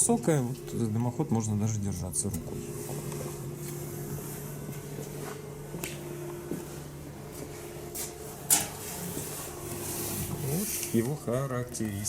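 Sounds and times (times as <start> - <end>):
fireplace mechanical hum: 0.0 - 12.0.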